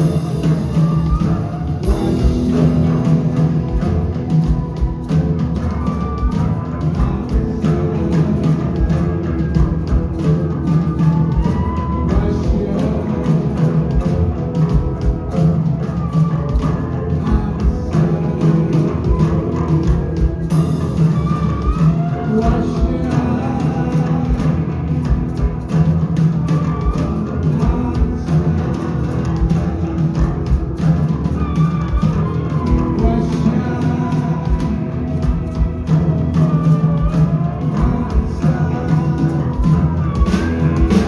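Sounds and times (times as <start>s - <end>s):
drums: 0.0s - 41.0s
heavy bass guitar: 0.0s - 41.0s
person singing: 0.0s - 41.0s.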